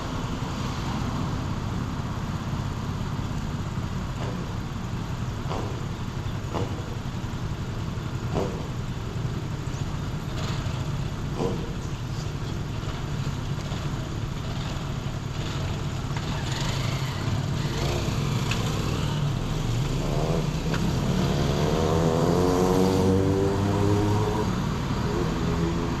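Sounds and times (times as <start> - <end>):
car engine and road rumble: 0.0 - 26.0
engine accelerating: 4.1 - 26.0.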